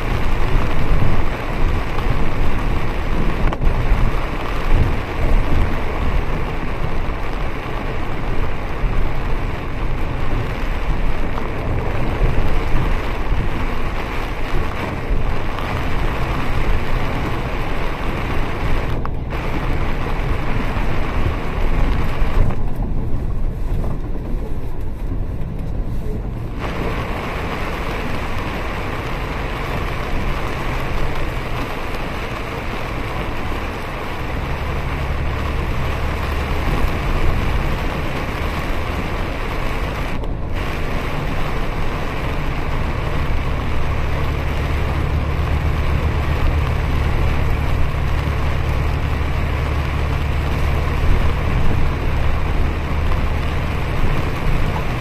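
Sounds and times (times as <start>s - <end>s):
bus engine and tyres rumbling: 0.0s - 55.0s
heavy rain hitting a bus: 0.0s - 55.0s.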